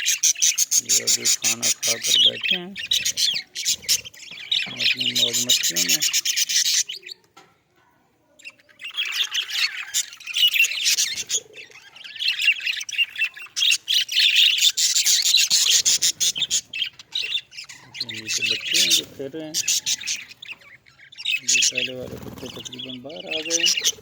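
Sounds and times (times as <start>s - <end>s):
budgerigars chirping: 0.0s - 7.2s, 8.4s - 24.0s.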